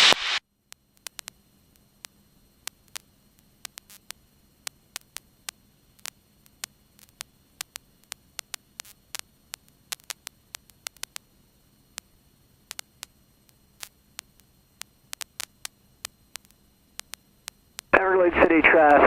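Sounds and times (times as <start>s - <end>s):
faint steady hum: 0.0s - 19.0s
sharp clicks and crackles: 0.1s - 18.0s.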